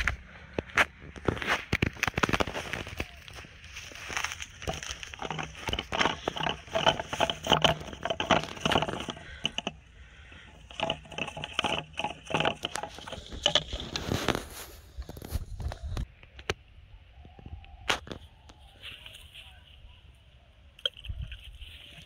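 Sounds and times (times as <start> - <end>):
crackling in dry grass: 0.0 - 22.0.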